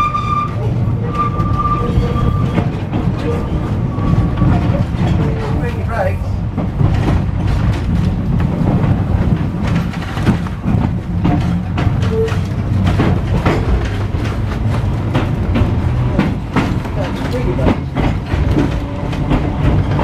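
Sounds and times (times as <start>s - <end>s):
tram rumbling: 0.0s - 20.0s
wheels clacking on rails: 0.0s - 20.0s.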